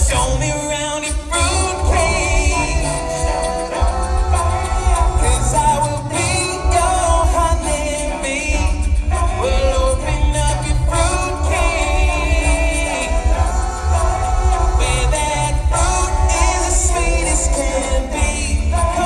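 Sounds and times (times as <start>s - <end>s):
male a cappella group singing: 0.0s - 19.0s
vocal bass line: 0.0s - 19.0s.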